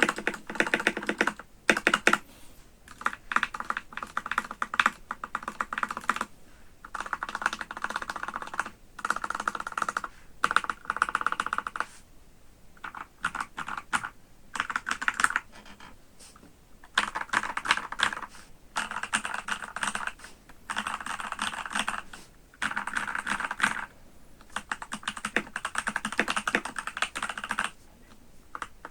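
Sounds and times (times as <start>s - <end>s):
mechanical keyboard typing: 0.0s - 2.2s, 2.9s - 11.9s, 12.8s - 15.9s, 16.8s - 27.8s, 28.5s - 28.9s.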